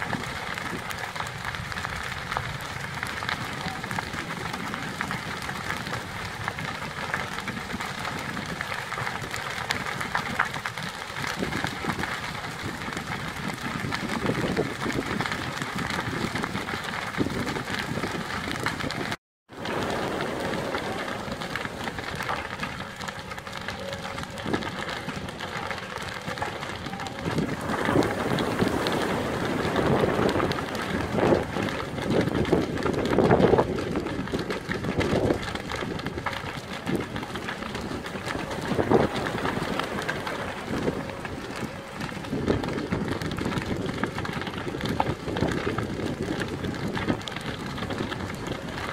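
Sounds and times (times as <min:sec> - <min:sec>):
fire roaring and crackling: 0:00.0 - 0:48.9
fire rumbles and pops: 0:00.0 - 0:48.9.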